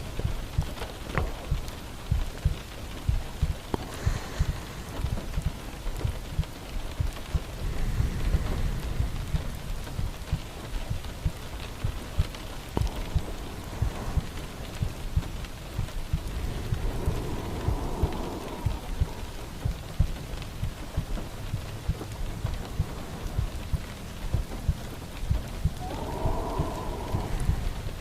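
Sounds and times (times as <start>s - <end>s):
low irregular thuds: 0.0s - 28.0s
rain falling: 0.0s - 28.0s
soft breathy sound: 0.0s - 28.0s.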